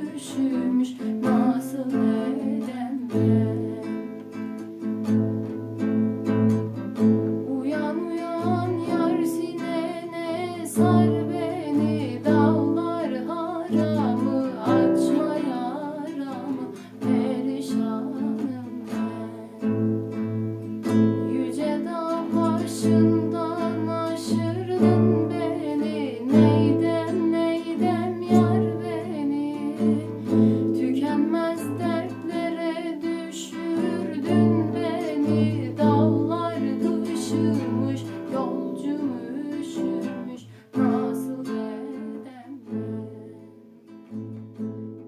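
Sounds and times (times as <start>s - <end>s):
person singing ornamented melody: 0.0s - 44.4s
acoustic guitar strumming and plucking: 0.0s - 45.0s.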